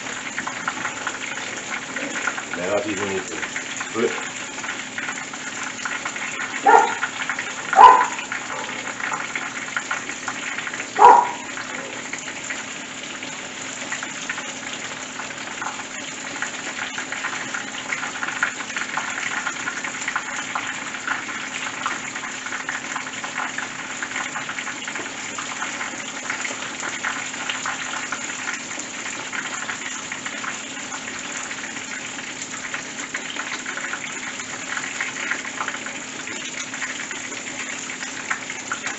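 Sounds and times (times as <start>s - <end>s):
fish deep frying in oil: 0.0s - 38.9s.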